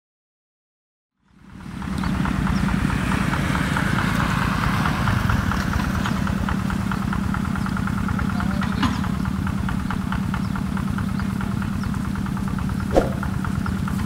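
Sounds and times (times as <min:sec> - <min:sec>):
engine running with rapid pulse: 0:01.3 - 0:14.0.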